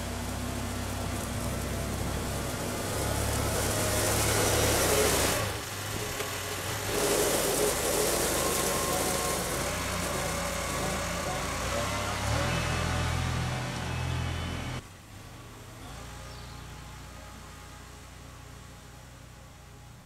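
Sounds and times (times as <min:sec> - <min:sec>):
tractor engine driving past: 0:00.0 - 0:20.0.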